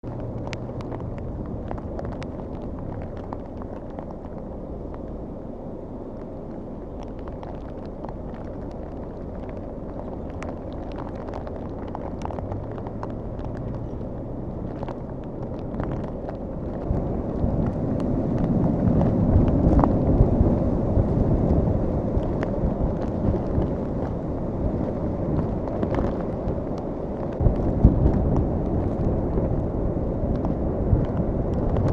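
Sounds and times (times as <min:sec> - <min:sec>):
wind on microphone: 0:00.0 - 0:05.4, 0:06.2 - 0:31.9.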